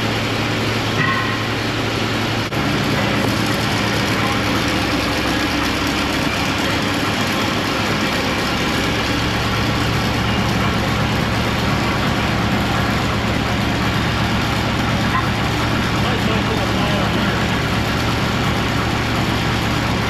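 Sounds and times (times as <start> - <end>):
heavy engine idling: 0.0 - 20.0.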